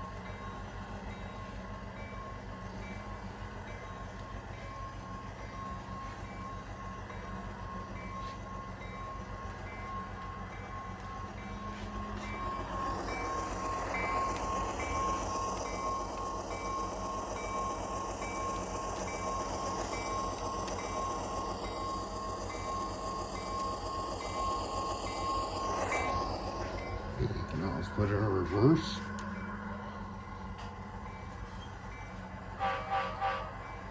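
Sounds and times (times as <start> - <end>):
model locomotive diesel engine sound: 0.0 - 33.9
rising whine: 4.1 - 32.6.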